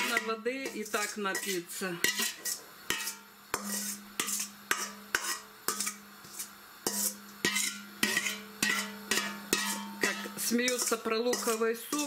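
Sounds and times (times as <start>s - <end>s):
metal bowl scraping steel pot: 0.0s - 12.0s.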